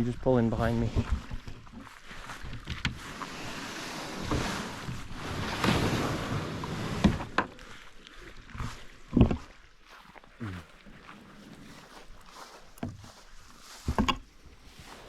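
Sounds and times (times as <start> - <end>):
water sloshing around boat: 1.0 - 15.0.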